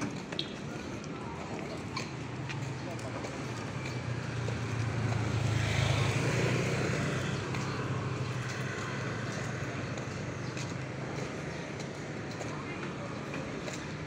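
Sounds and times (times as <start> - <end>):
street background noise: 0.0 - 14.0
vehicle engine passing: 1.6 - 13.5.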